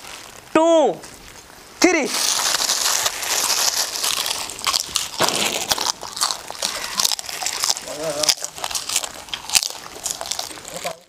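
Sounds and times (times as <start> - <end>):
people crunching crispy snacks: 0.0 - 0.5, 1.1 - 11.0
plastic snack packets crinkling: 1.1 - 11.0.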